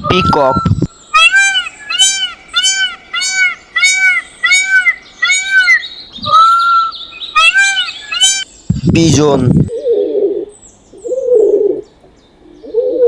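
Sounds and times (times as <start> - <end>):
peacock calling: 0.0 - 11.8.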